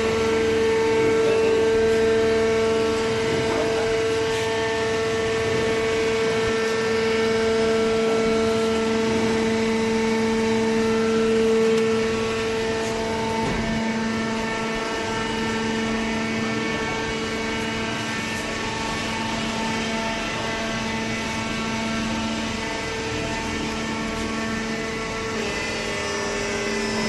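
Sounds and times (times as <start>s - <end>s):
hydraulic baler humming: 0.0s - 27.0s.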